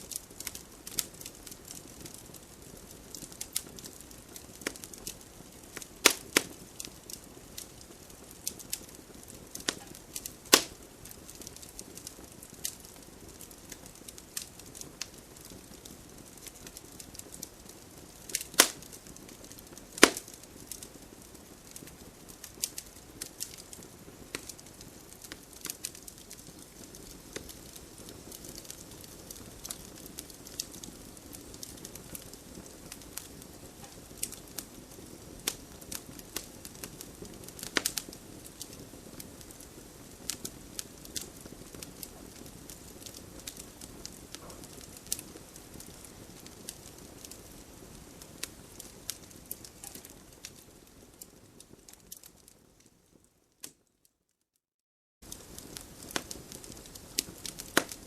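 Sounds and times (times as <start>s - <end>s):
burning wood popping: 0.0s - 52.9s, 55.2s - 58.0s
wood fire crackling: 0.0s - 54.0s, 55.2s - 58.0s.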